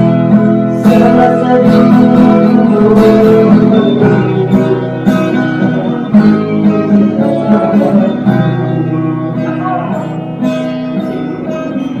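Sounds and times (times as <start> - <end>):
guitar playing: 0.0 - 12.0.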